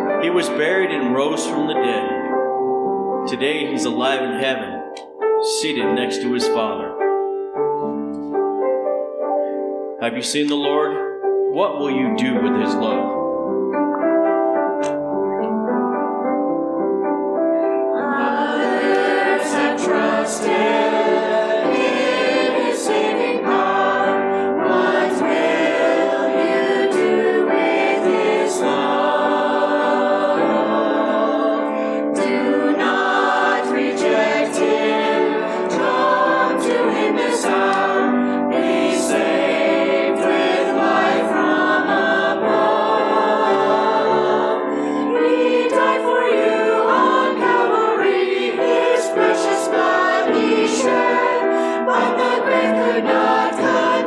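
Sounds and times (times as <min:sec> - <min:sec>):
choir singing choral music: 0:00.0 - 0:10.9, 0:11.6 - 0:13.7, 0:17.0 - 0:54.0.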